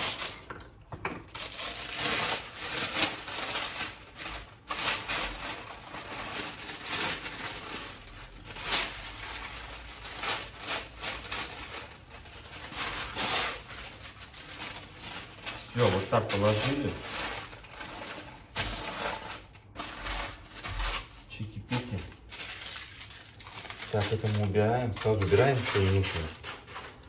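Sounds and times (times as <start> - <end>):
parchment paper rustling: 0.0 - 27.0.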